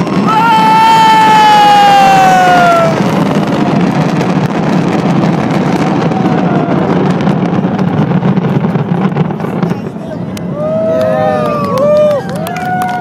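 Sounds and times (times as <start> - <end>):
fireworks crackling: 0.0 - 13.0
steady low rumble: 2.1 - 13.0.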